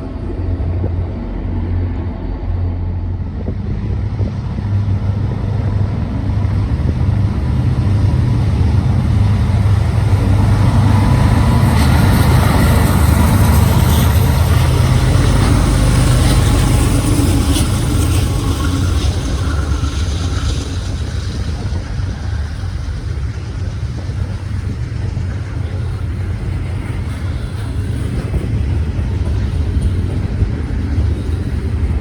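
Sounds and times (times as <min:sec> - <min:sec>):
diesel train engine rumble: 0:00.0 - 0:32.0.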